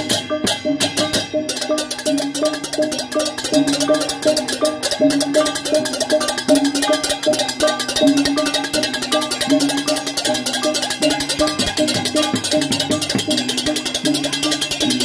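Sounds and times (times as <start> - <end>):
hand cymbals clashing: 0.0 - 15.0
small gongs ringing: 0.0 - 15.0.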